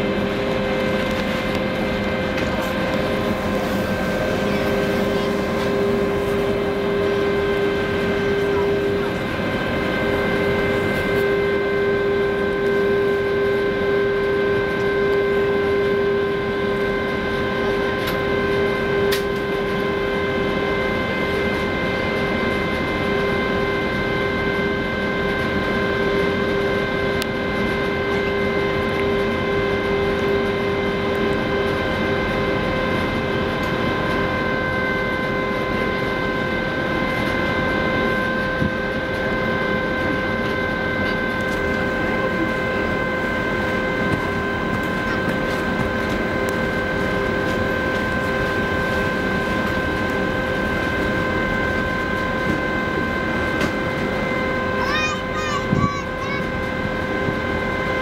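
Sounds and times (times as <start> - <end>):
ferry machinery droning: 0.0 - 58.0
steady whining tones: 0.0 - 58.0.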